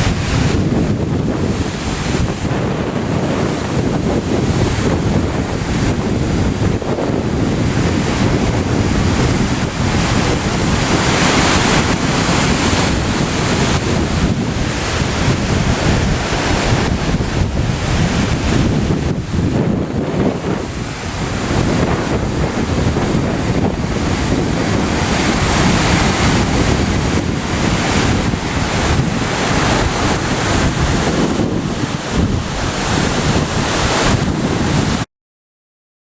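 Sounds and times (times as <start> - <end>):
waterfall rushing: 0.0 - 35.0
wind buffeting microphone: 0.0 - 35.0.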